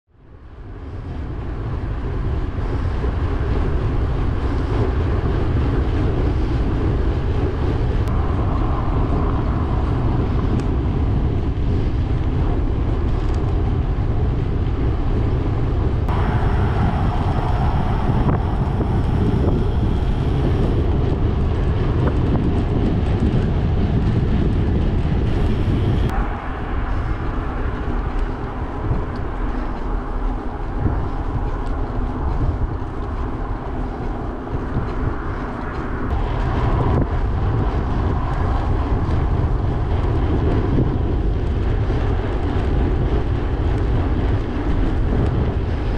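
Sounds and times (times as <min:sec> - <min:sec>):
wind rumbling on microphone: 0:00.1 - 0:45.9.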